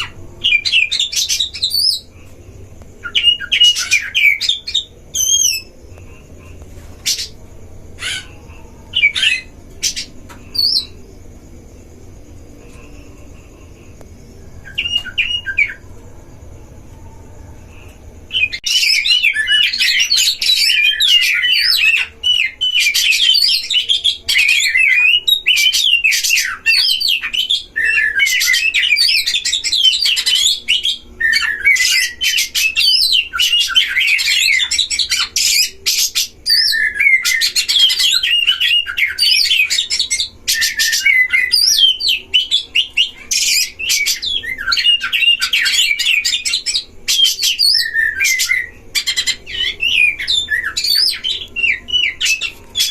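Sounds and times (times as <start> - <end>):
birds singing whistles and chirps: 0.0 - 13.1, 13.9 - 17.0, 17.6 - 52.9.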